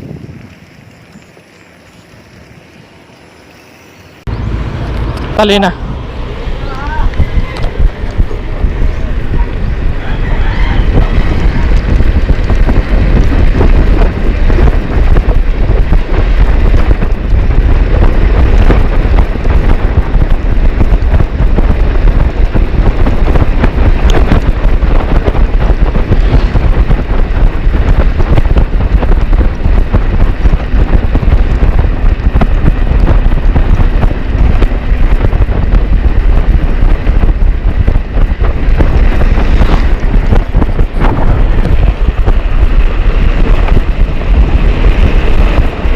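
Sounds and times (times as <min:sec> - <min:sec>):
wind buffeting microphone: 0:00.0 - 0:02.8, 0:04.2 - 0:45.9.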